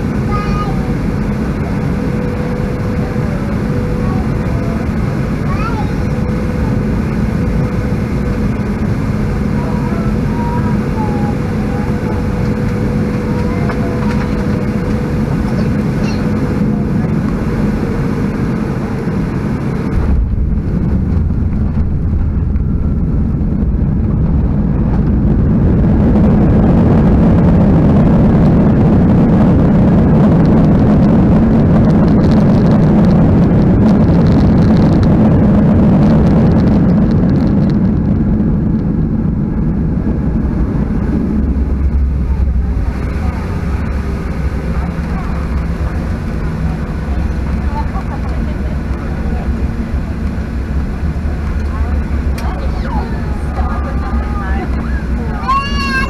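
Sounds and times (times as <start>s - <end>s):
jet engines roaring in cabin: 0.0s - 56.0s.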